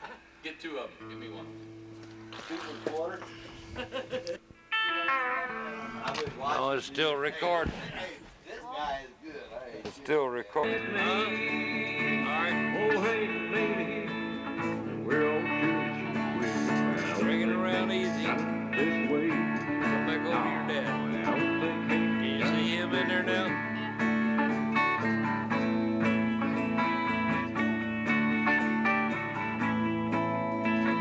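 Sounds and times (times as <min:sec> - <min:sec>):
country guitar music: 0:01.0 - 0:03.5, 0:04.6 - 0:07.7, 0:10.0 - 0:31.0.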